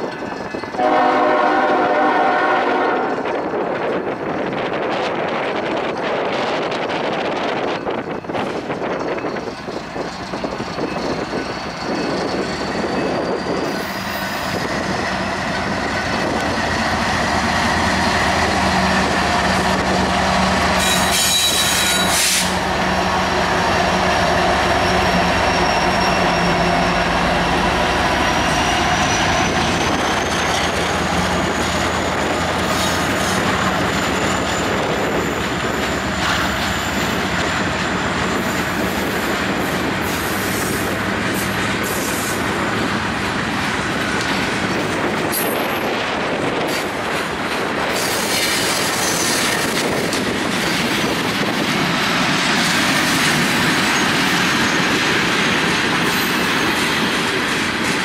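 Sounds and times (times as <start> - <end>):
diesel locomotive engine drone: 0.0 - 58.0
wheels squealing on rails: 5.5 - 58.0.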